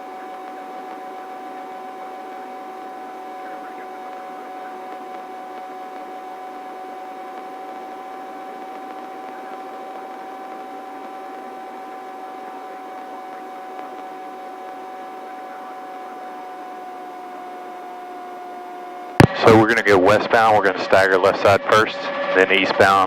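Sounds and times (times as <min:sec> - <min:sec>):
helicopter cabin whine: 0:00.0 - 0:23.0.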